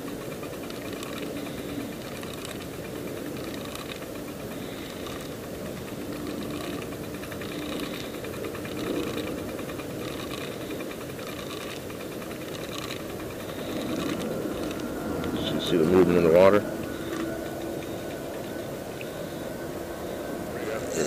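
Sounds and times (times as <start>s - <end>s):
mechanical whir with rattle: 0.0s - 21.0s.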